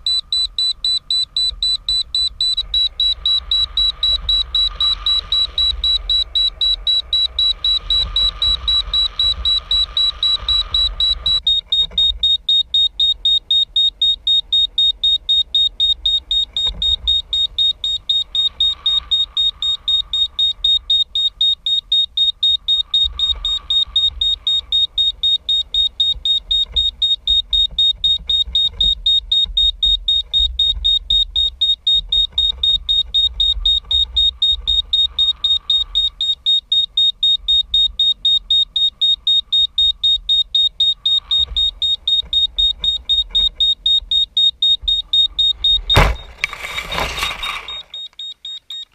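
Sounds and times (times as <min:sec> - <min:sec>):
rapid high-pitched beeps: 0:00.0 - 0:48.9.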